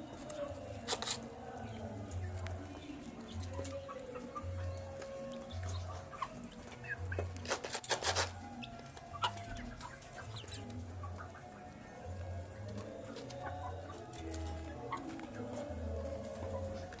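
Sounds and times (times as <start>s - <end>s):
baby chicks cheeping: 0.0s - 17.0s.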